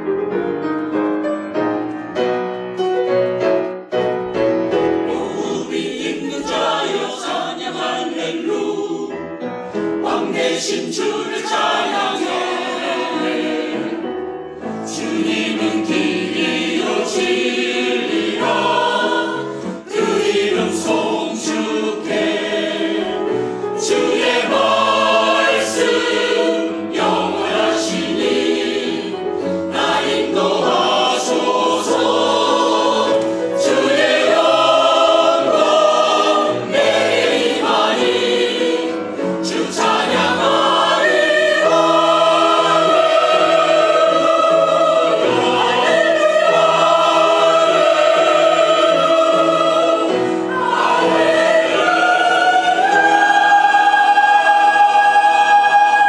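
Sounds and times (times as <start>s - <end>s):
mixed choir singing: 4.7s - 56.0s.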